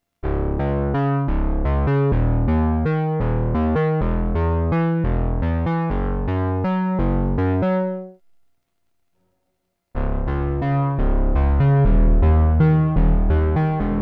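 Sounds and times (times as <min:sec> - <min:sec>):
synthesizer plucky bass notes: 0:00.2 - 0:08.2, 0:10.0 - 0:14.0.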